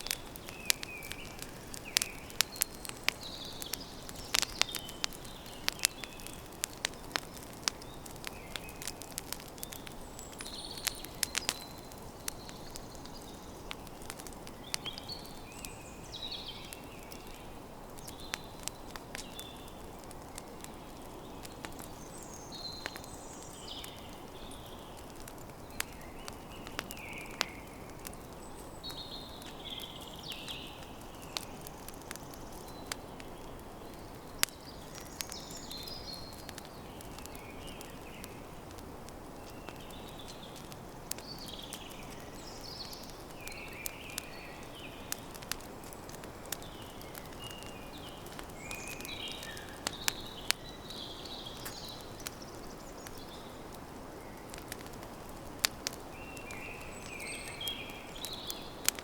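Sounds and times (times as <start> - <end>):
campfire crackling and popping: 0.0 - 59.0
small birds singing: 0.0 - 59.0.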